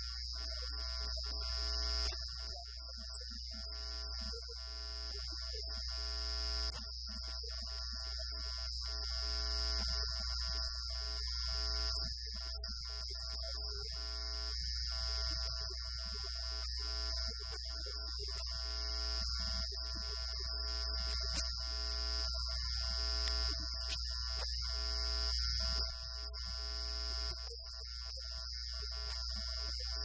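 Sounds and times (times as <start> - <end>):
electrical hum and buzz: 0.0 - 30.0.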